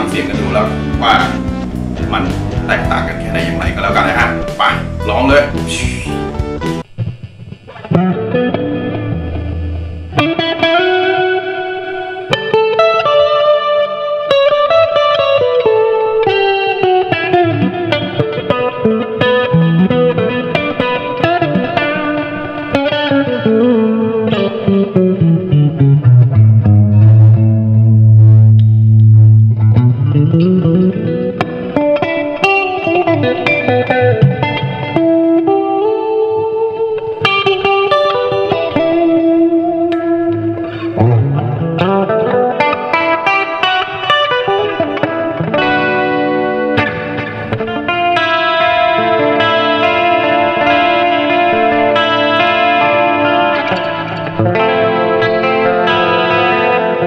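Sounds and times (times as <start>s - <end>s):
electric guitar solo: 0.0s - 57.0s.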